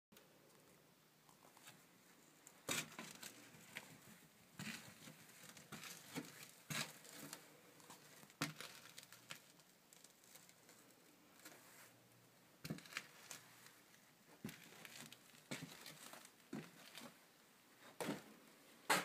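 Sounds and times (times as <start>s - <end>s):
rustling and crinkling: 0.4s - 12.0s, 12.6s - 19.0s.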